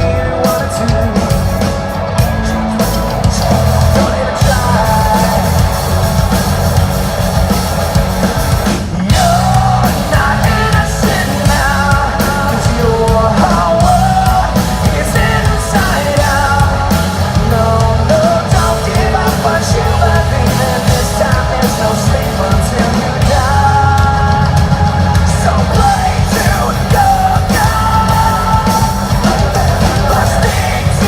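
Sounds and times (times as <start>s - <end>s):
person singing: 0.0s - 6.5s, 8.6s - 31.0s
driving drums: 0.0s - 31.0s
rock band playing live: 0.0s - 31.0s.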